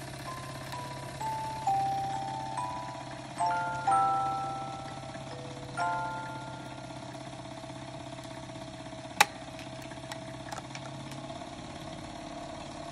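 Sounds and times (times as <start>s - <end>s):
music box mechanism hum: 0.0s - 12.9s.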